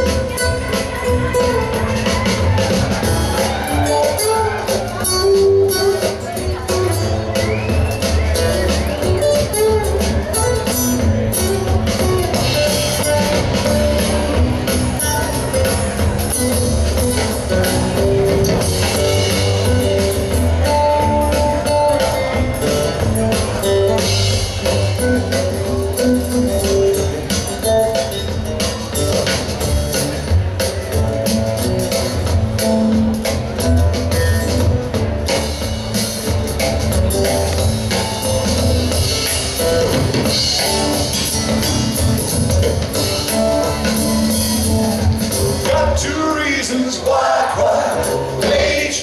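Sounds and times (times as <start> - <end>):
drum kit with cymbals: 0.0 - 49.0
upright double bass: 0.0 - 49.0.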